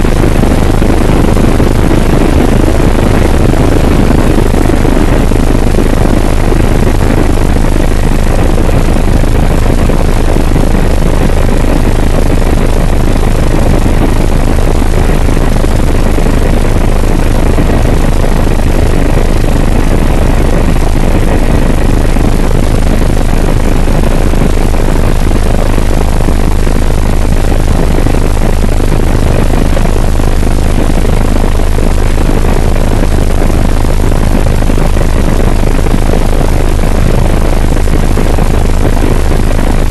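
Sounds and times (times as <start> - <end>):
faint steady whine: 0.0 - 39.9
helicopter rotor and turbine drone: 0.0 - 39.9
low hum: 0.0 - 39.9.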